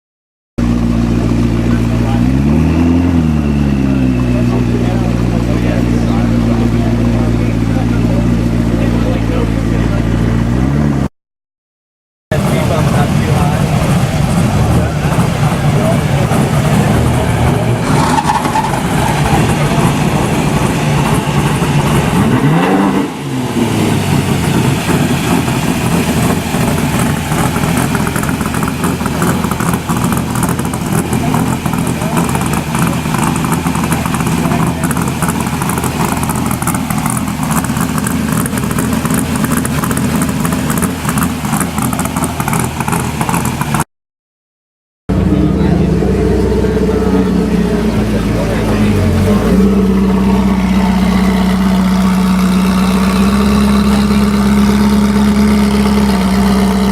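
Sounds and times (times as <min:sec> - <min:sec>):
car engine revving: 0:00.6 - 0:11.1, 0:12.3 - 0:43.8, 0:45.1 - 0:56.9.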